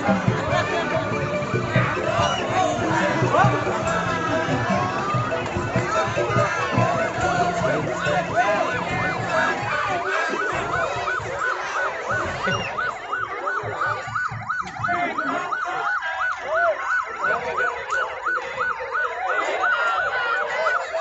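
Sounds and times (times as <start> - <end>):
ambulance siren yelp: 0.0 - 21.0.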